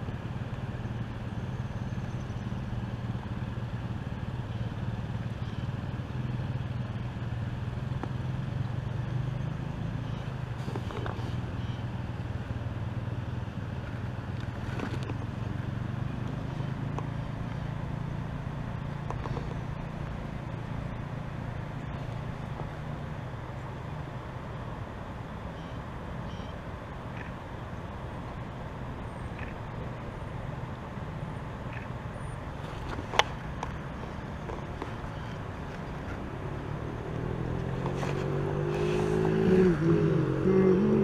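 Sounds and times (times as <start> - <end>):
low engine-like rumble: 0.0 - 41.0.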